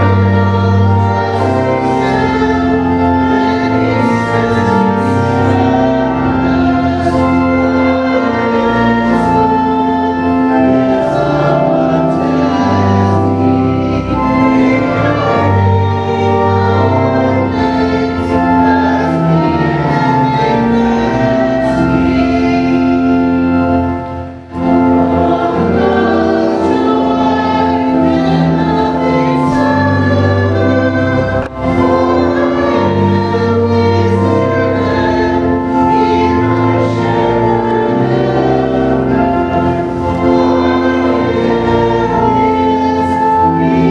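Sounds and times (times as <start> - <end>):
instrumental accompaniment: 0.0 - 43.9
voices singing a hymn: 0.0 - 43.9.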